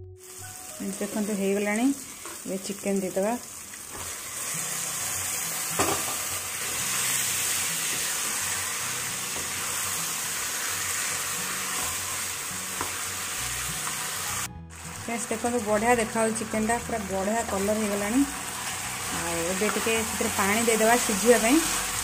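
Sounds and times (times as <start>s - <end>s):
chicken sizzling in oil: 0.2s - 22.0s.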